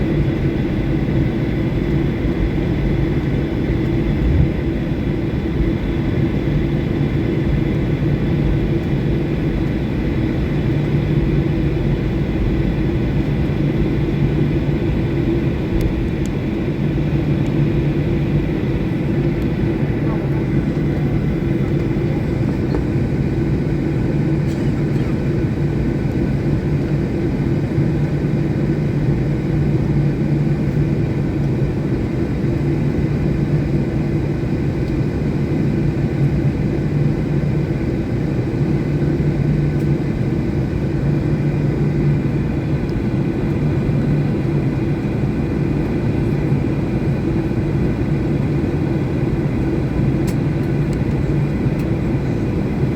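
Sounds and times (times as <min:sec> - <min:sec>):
aircraft cabin rumble and hum: 0:00.0 - 0:52.9.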